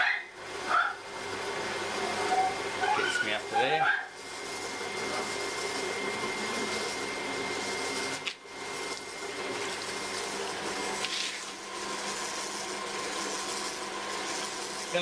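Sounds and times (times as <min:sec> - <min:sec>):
potter's wheel motor whir: 0:00.0 - 0:15.0.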